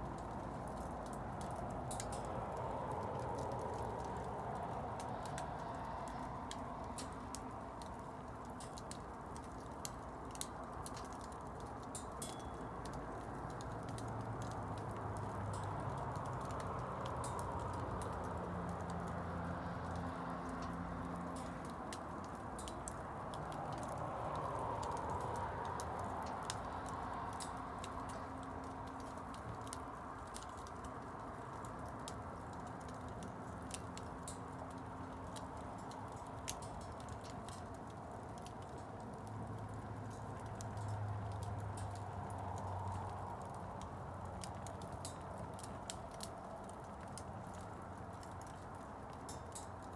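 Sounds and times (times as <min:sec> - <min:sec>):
bonfire crackling and popping: 0:00.0 - 0:49.9.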